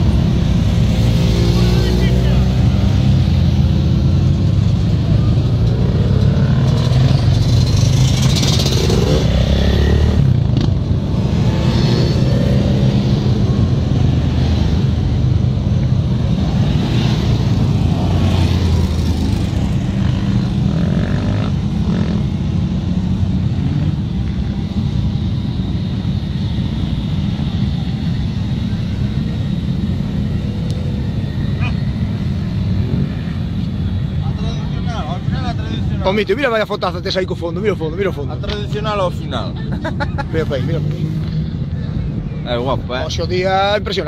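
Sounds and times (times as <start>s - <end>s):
quad bike engines revving: 0.0s - 37.0s, 37.6s - 43.1s.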